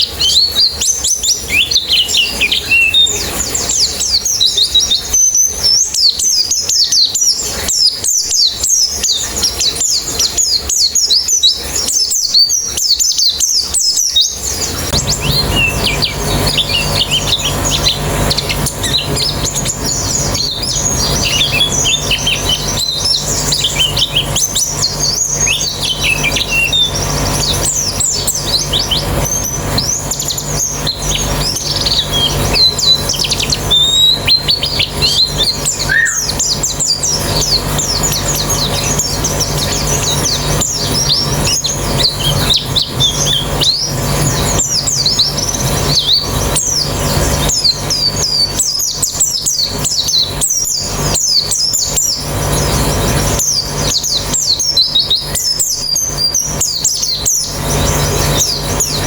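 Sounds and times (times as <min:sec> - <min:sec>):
birds chirping and trilling: 0:00.0 - 0:59.0
steady low hum: 0:00.0 - 0:59.0.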